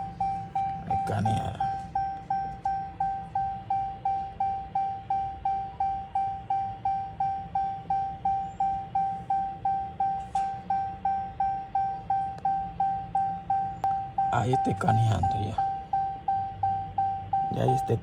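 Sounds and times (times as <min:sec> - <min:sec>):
electronic warning chime dinging: 0:00.0 - 0:18.0
low steady hum: 0:00.0 - 0:18.0.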